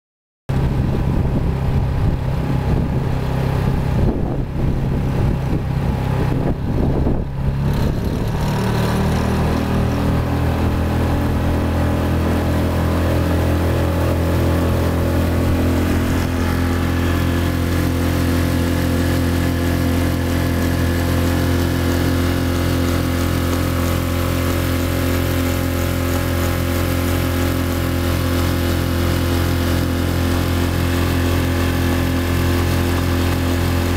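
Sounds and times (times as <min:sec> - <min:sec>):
outboard motor running: 0:00.5 - 0:33.9.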